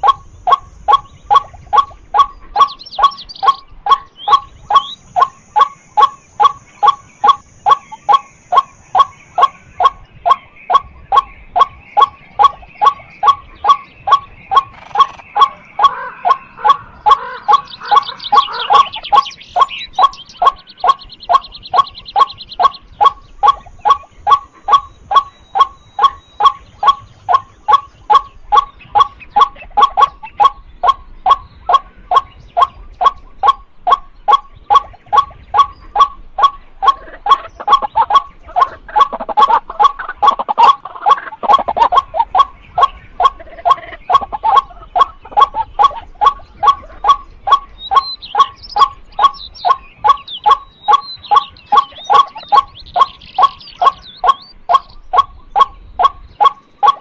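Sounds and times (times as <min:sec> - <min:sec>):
waterhen calling kwak notes: 0:00.0 - 0:57.0.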